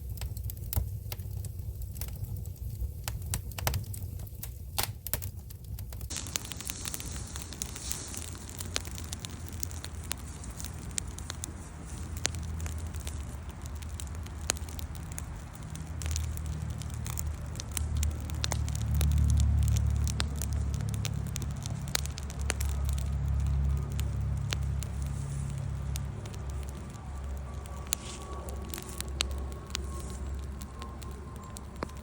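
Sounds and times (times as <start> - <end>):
campfire crackling: 0.0 - 32.0
sharp pops of fire: 0.0 - 32.0
low rumble: 5.7 - 32.0.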